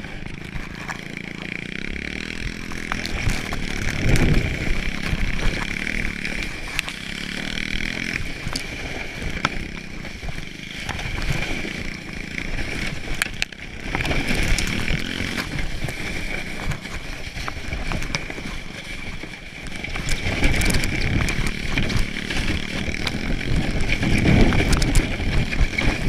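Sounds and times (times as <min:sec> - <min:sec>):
small motorbike engine buzzing: 0:00.0 - 0:26.0.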